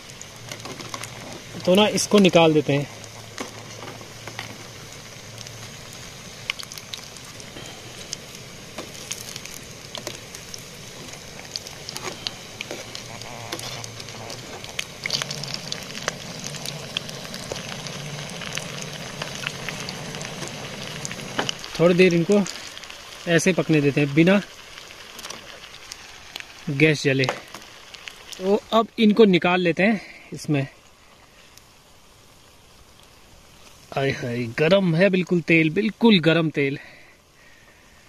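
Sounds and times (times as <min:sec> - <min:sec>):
food deep-frying in oil: 0:00.0 - 0:38.0.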